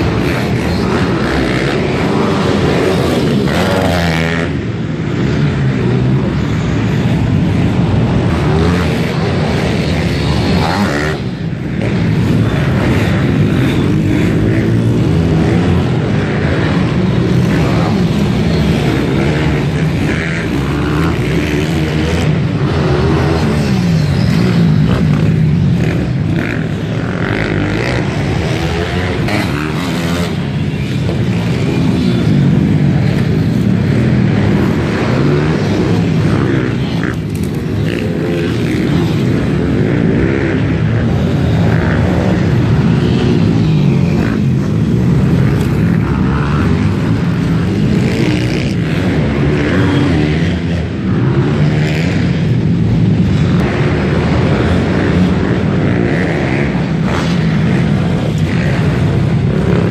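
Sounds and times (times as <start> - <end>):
pit bike engines revving: 0.0 - 59.9.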